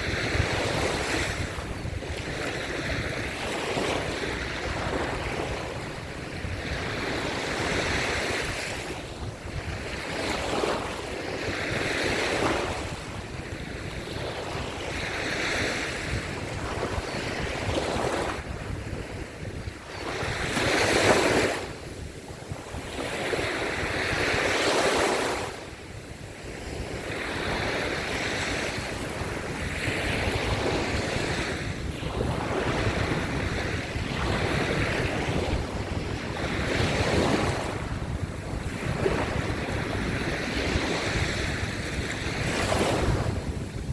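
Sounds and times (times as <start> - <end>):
waves washing onto beach: 0.0 - 43.9
wind buffeting microphone: 0.0 - 43.9.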